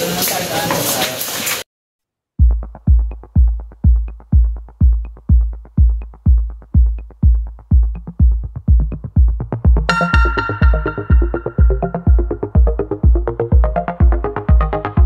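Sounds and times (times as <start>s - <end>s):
electronic dance music: 2.4s - 15.0s.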